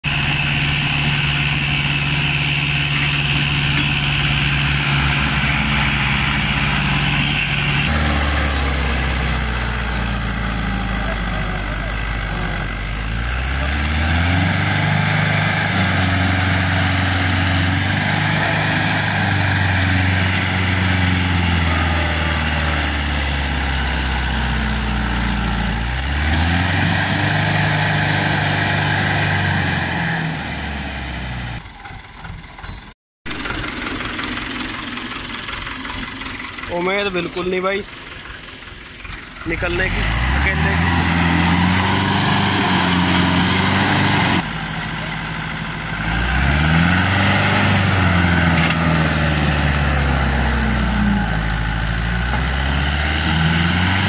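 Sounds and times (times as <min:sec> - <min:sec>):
tractor diesel engines labouring: 0:00.0 - 0:54.0.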